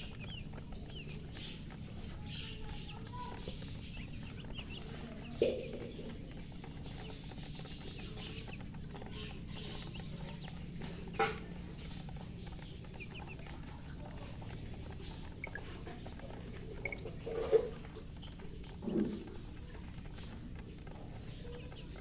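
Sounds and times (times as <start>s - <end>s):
baby chickens peeping: 0.0s - 22.0s
steady low hum: 0.0s - 22.0s.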